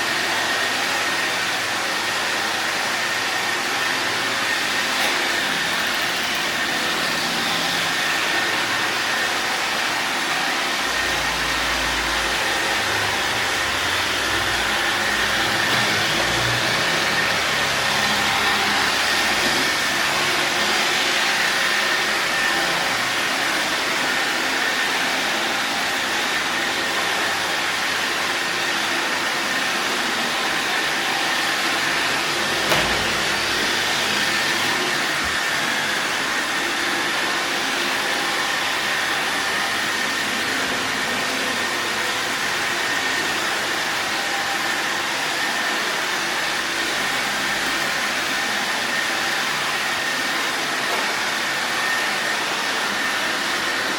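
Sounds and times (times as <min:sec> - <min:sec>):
robot vacuum cleaner whirring: 0:00.0 - 0:53.9.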